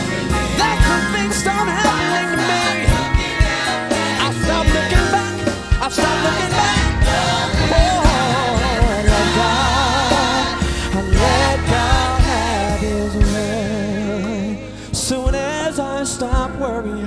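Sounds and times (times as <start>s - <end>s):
steady drum beat: 0.0s - 14.4s, 15.0s - 15.6s
bass guitar: 0.0s - 17.0s
keyboard: 0.0s - 17.0s
voices singing gospel: 0.0s - 17.0s.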